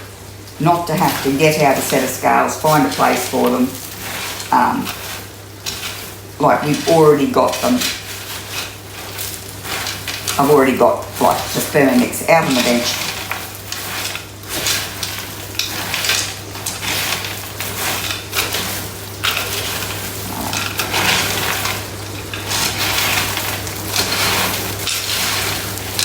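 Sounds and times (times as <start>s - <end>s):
spatula scraping dry cereal: 0.6s - 26.0s.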